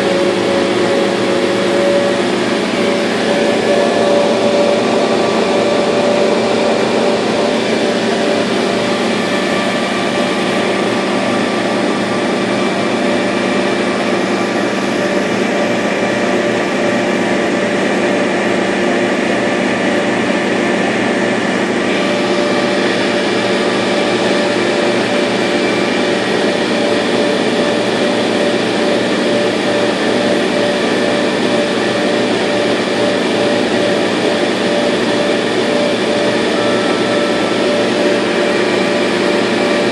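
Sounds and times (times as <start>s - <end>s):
laser cutter whirring: 0.0s - 39.9s.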